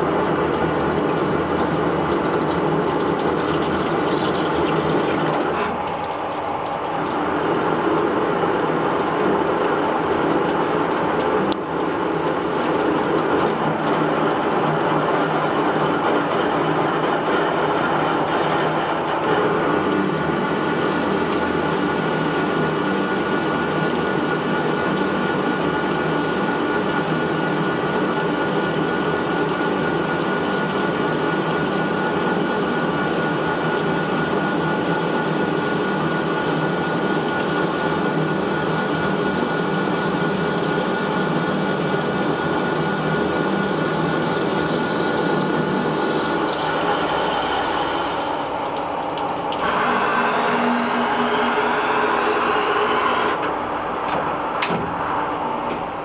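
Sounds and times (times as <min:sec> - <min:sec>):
cutting and coolant wash: 0:00.0 - 0:56.0
lathe spindle whine: 0:00.0 - 0:56.0.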